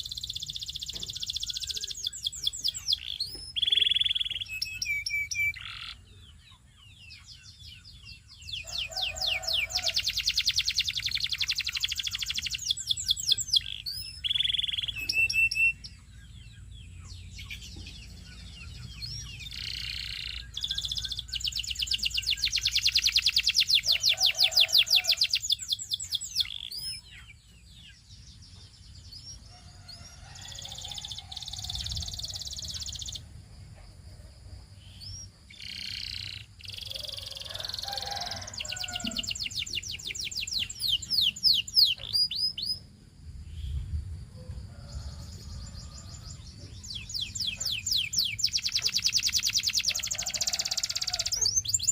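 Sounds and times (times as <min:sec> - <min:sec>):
canary singing trills: 0:00.0 - 0:43.9, 0:44.8 - 0:51.9.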